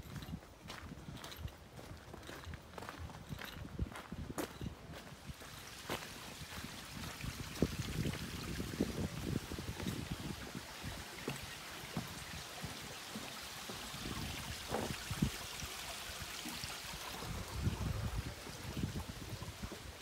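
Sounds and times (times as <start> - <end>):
footsteps on wooden boardwalk: 0.0 - 8.2, 8.8 - 20.0.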